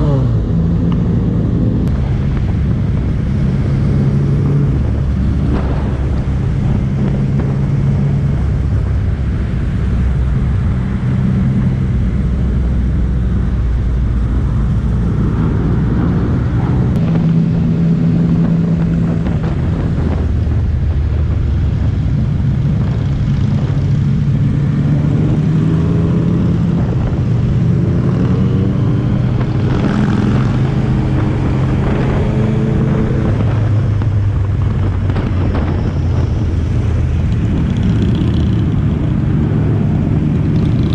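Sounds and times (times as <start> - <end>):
motorcycle engines running: 0.0 - 40.9
wind and road noise: 0.0 - 40.9.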